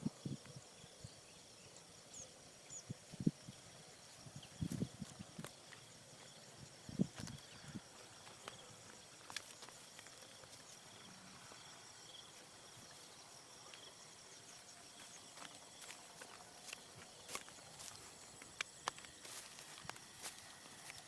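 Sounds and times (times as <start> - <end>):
faint high insect drone: 0.0 - 21.0.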